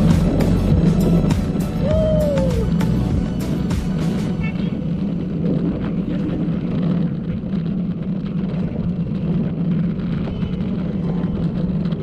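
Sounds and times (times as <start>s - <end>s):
wheels rolling on concrete: 0.0s - 12.0s
wind noise on microphone: 0.0s - 12.0s.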